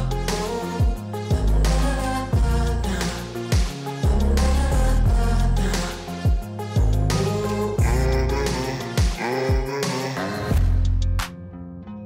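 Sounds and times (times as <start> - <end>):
music with steady beat: 0.0 - 11.5.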